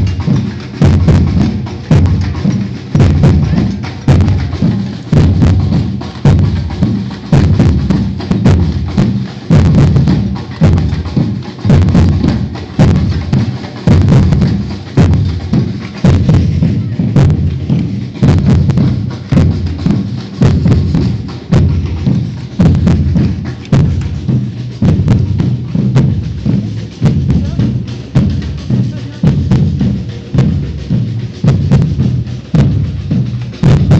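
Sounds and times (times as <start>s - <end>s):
deep bass drums: 0.0s - 33.9s
samba percussion ensemble: 0.0s - 33.9s.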